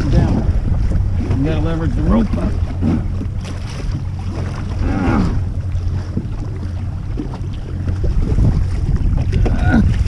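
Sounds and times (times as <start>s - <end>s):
boat motor humming: 0.0s - 10.0s
river water splashing: 0.0s - 10.0s
wind buffeting microphone: 0.0s - 10.0s.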